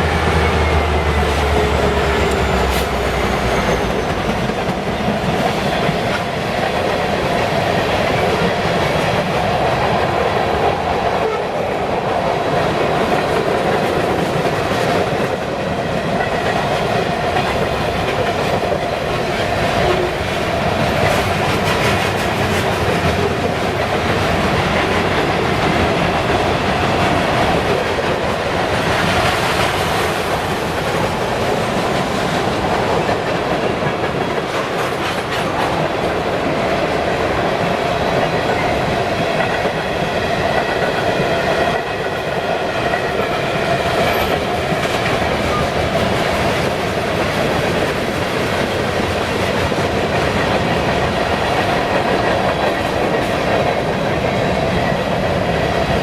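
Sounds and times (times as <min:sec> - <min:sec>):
freight train cars rolling past: 0:00.0 - 0:56.0
locomotive drone: 0:00.0 - 0:56.0.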